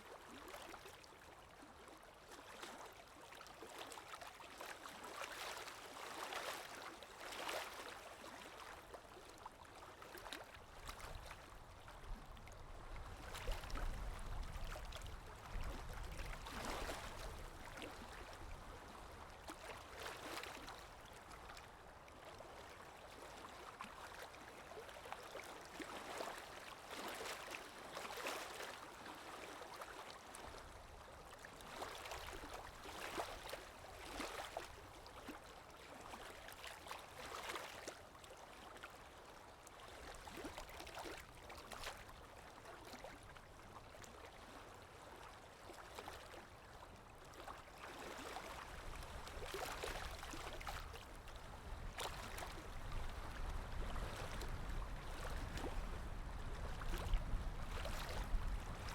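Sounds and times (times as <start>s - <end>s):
small waves breaking on shore: 0.1s - 58.9s.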